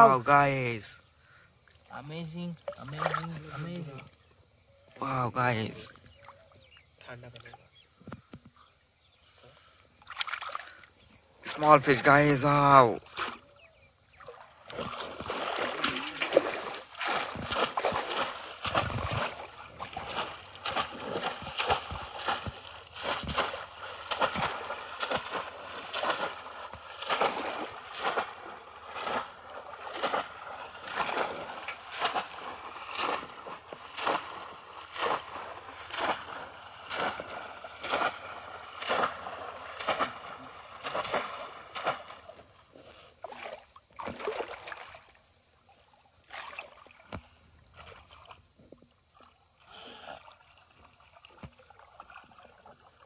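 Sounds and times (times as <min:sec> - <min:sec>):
faint water sloshing: 0:00.0 - 0:53.0
fish traps slapping water: 0:01.7 - 0:04.2, 0:10.0 - 0:45.3, 0:46.2 - 0:53.0.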